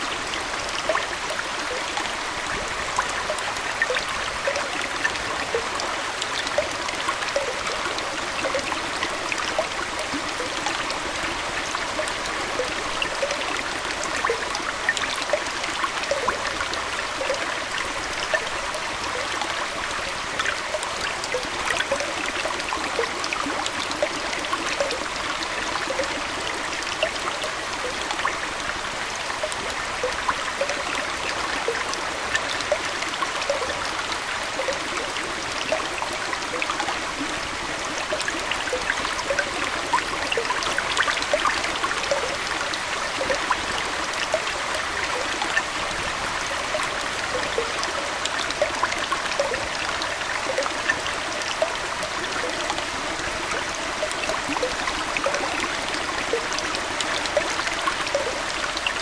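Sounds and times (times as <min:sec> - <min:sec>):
aquarium water trickling: 0:00.0 - 0:59.0
small plinks and bubbling pops: 0:00.7 - 0:59.0.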